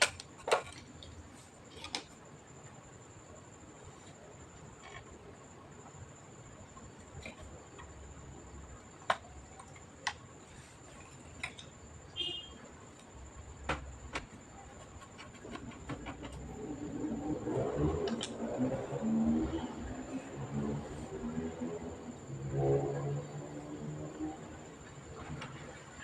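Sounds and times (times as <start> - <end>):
faint high whine: 0.0 - 26.0.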